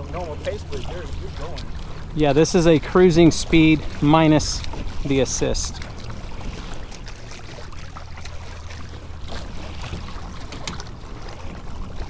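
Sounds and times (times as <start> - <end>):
steady low hum: 0.0 - 12.0
water lapping along kayak hull: 0.0 - 12.0.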